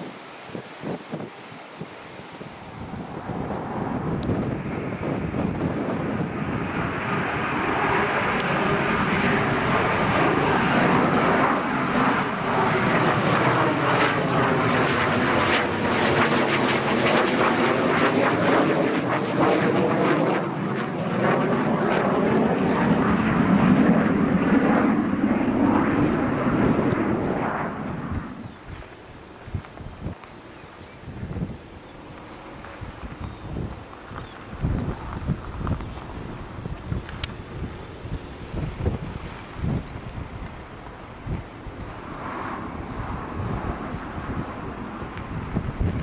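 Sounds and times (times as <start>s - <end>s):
jet engine roar: 0.0s - 46.0s.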